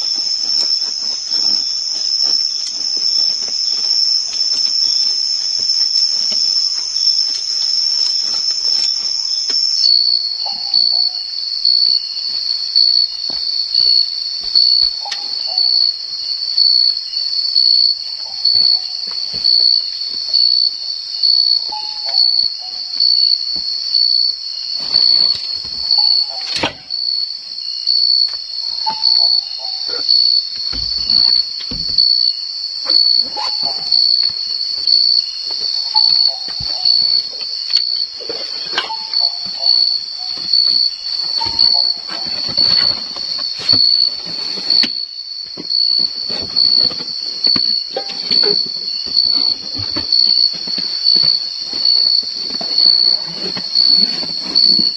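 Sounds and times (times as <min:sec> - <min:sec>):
insects shrilling: 0:00.0 - 0:54.9.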